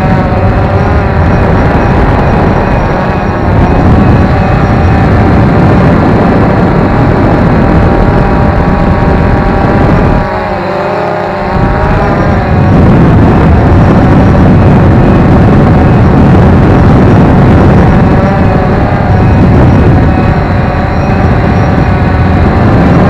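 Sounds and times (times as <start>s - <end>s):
drone motors whining: 0.0s - 23.0s
heavy low rumble: 0.0s - 23.0s.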